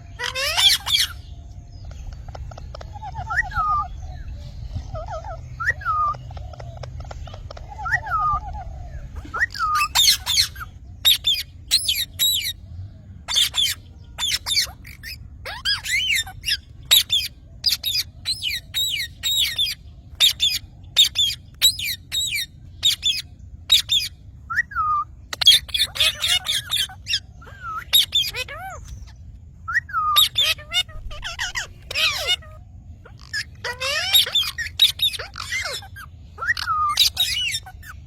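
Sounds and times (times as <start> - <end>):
parrots squawking and chirping: 0.0 - 38.0.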